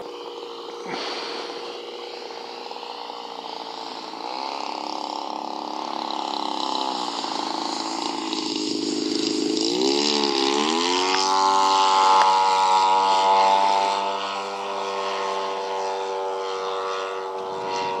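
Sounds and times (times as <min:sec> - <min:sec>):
model plane engine buzzing: 0:00.0 - 0:18.0.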